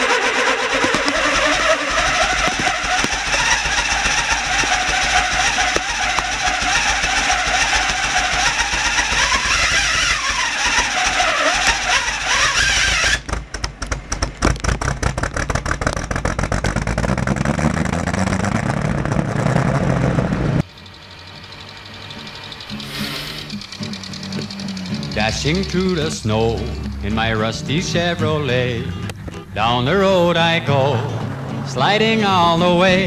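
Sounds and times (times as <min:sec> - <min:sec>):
pickup engine cranking and starting: 0:00.0 - 0:33.0.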